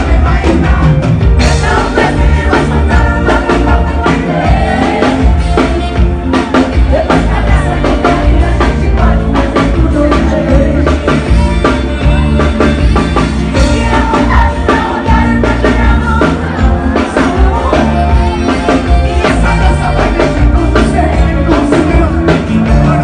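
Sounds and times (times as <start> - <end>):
drum beat: 0.0 - 23.0
live band music: 0.0 - 23.0
person singing: 0.0 - 23.0.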